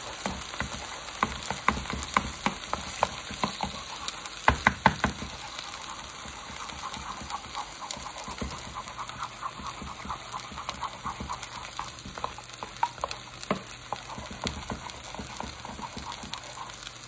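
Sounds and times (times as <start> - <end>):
eggs sizzling in pan: 0.0 - 17.0.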